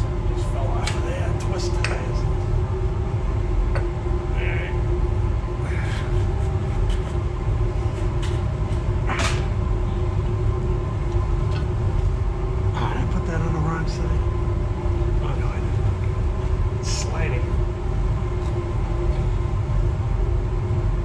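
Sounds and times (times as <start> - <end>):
low mechanical drone: 0.0 - 21.0.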